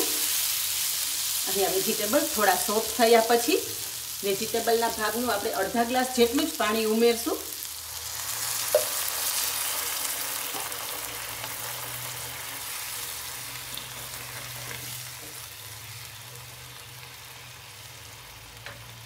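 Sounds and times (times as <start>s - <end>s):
vegetables sizzling in hot pan: 0.0s - 19.0s.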